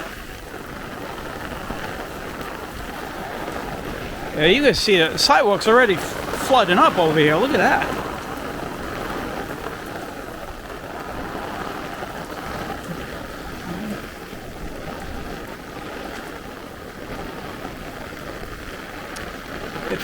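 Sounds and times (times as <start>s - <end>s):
heavy rain on pavement: 0.0s - 20.0s.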